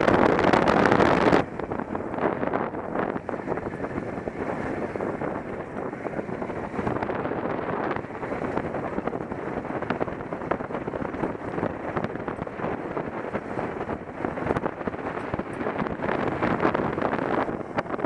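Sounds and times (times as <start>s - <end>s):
motorcycle engine running: 0.0s - 18.0s
road noise: 0.0s - 18.0s
wind buffeting microphone: 0.0s - 18.0s.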